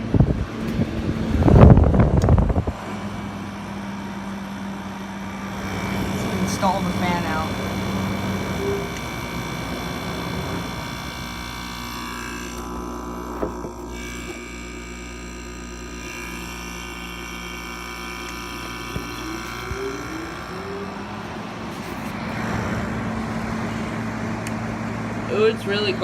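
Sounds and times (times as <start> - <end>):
air conditioner compressor humming: 0.0 - 26.0
fan whine: 0.0 - 26.0.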